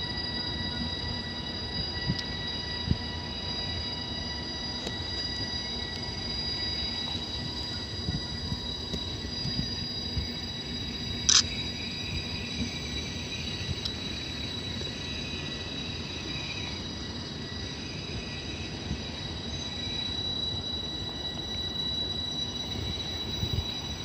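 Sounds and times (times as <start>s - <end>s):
electric locomotive rumble and whine: 0.0s - 24.0s.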